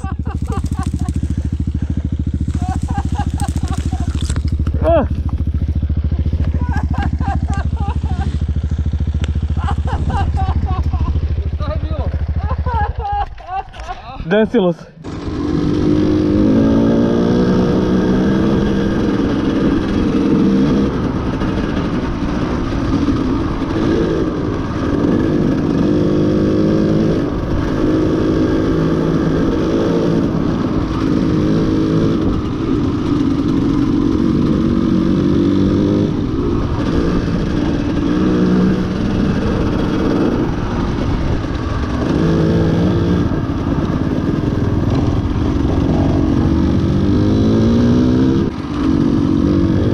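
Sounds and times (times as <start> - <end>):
motorcycle engine accelerating and shifting: 0.0 - 49.9.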